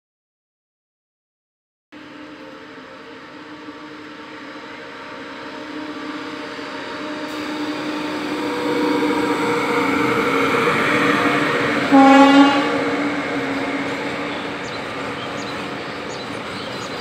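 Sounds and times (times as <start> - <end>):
locomotive hum: 2.0 - 17.0
rumbling rail noise: 2.0 - 17.0.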